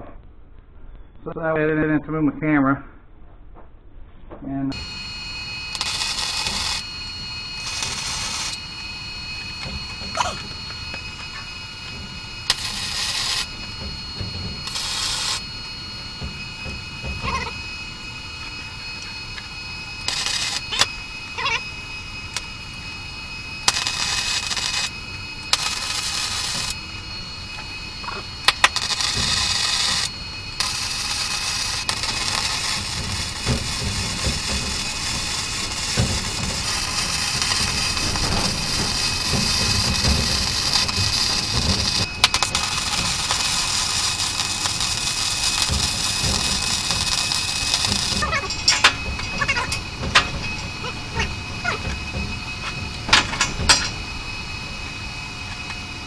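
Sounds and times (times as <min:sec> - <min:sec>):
welder arc hissing: 0:04.7 - 0:56.0.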